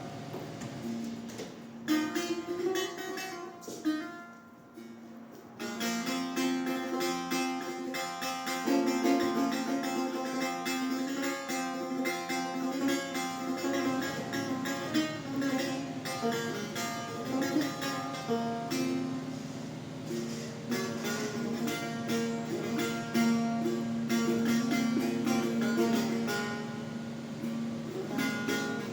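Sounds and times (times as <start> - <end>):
plucked lute notes: 0.0 - 28.9.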